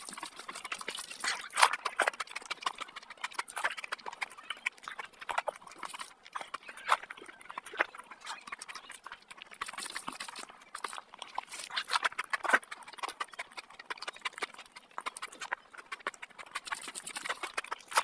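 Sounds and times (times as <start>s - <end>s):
rice squelching by hand: 0.0s - 18.0s
wet chewing and lip smacking: 0.0s - 18.0s.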